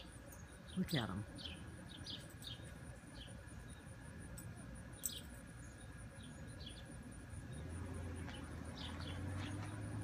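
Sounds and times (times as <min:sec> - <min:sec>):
birds chirping: 0:00.0 - 0:10.0
pulsing insect trill: 0:00.0 - 0:10.0.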